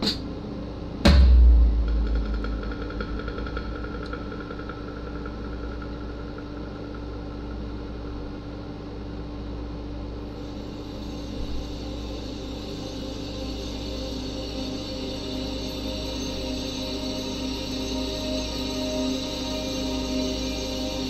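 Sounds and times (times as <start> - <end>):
low rumbling drone: 0.7 - 21.0.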